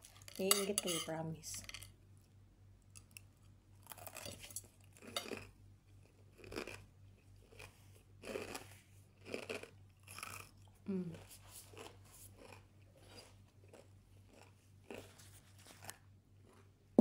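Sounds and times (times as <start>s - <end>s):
person chewing crunchy croutons: 2.9s - 16.8s.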